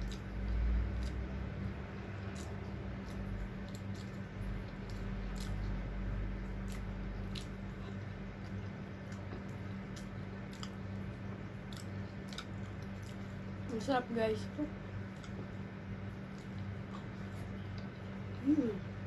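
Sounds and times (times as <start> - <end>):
chewing and mouth clicks: 0.0 - 1.3, 2.2 - 13.4, 15.1 - 15.6, 16.2 - 18.4
steady low hum: 0.0 - 19.0.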